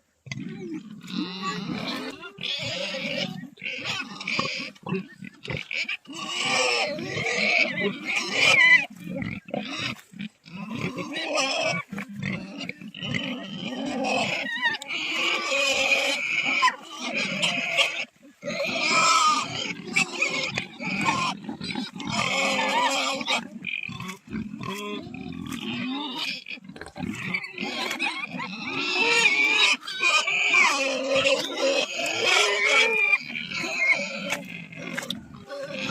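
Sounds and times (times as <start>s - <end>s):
pigs grunting: 0.2s - 35.9s
pigs squealing: 0.3s - 35.9s.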